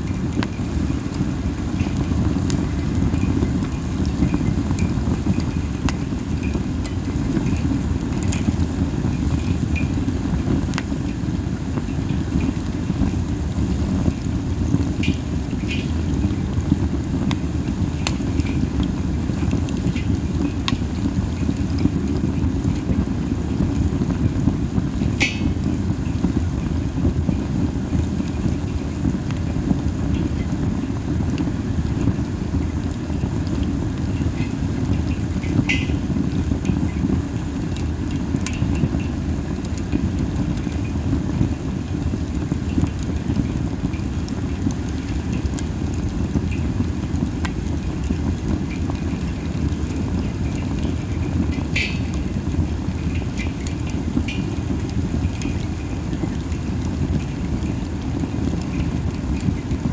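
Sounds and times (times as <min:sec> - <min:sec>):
campfire flame roar: 0:00.0 - 0:59.9
fire crackles and pops: 0:00.0 - 0:59.9.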